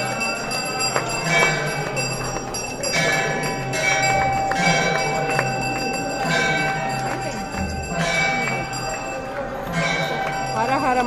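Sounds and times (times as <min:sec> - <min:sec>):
temple bells ringing: 0:00.0 - 0:11.0.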